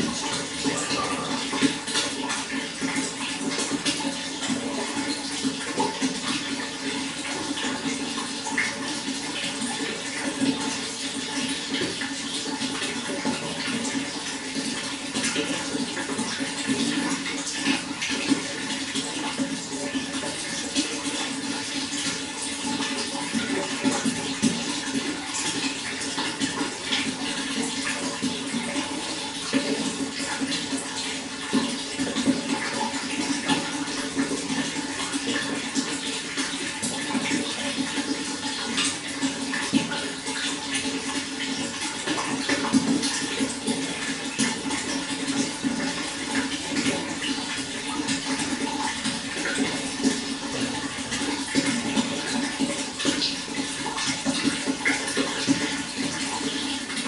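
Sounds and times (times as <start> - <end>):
running water rushing: 0.0 - 57.0
water splashes and drips: 0.0 - 57.0.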